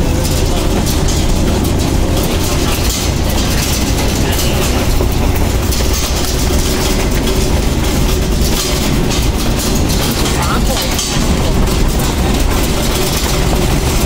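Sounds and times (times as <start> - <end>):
car cabin road rumble: 0.0 - 14.0.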